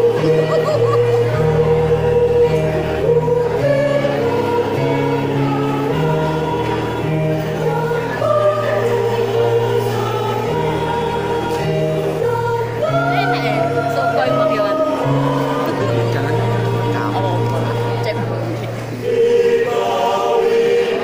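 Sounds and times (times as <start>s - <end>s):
choir singing in harmony: 0.0s - 21.0s
held bass notes: 0.0s - 21.0s.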